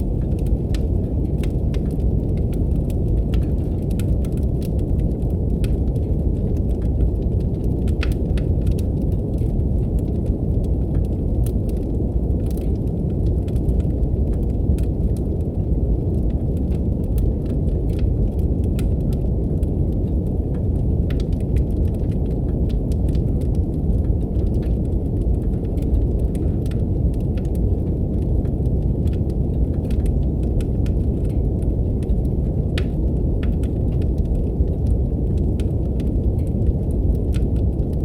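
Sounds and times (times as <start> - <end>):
brown noise rumble: 0.0 - 38.0
wood fire crackling: 0.0 - 38.0.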